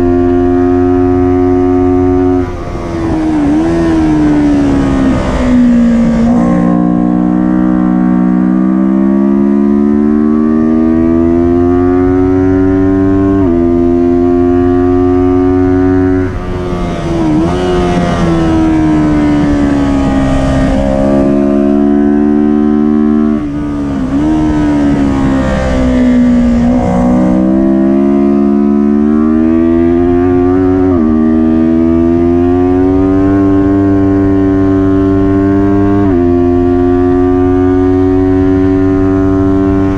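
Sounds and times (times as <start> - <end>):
motorcycle engine at full throttle: 0.0 - 39.9.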